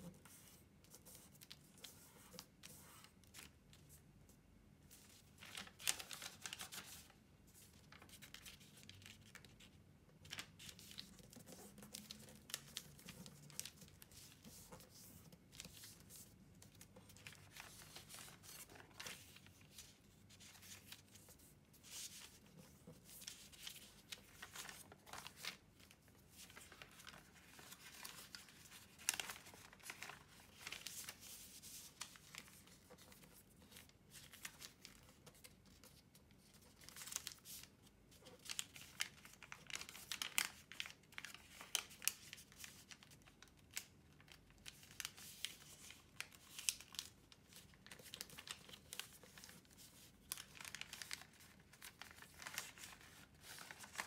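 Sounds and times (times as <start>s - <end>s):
paper rustling and crinkling: 0.0s - 4.1s, 4.9s - 54.0s
paper creases crackling: 5.0s - 54.0s.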